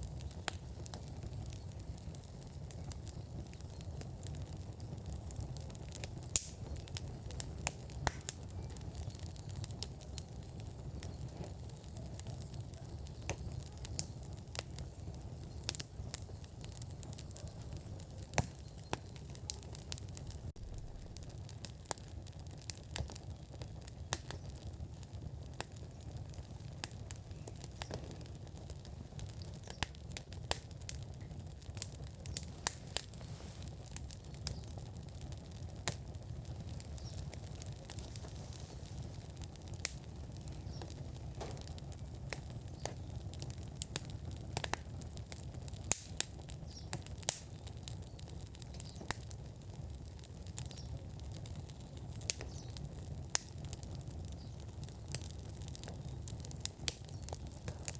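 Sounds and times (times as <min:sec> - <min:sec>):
fire low rumble: 0:00.0 - 0:57.9
wood fire crackling and popping: 0:00.0 - 0:57.9.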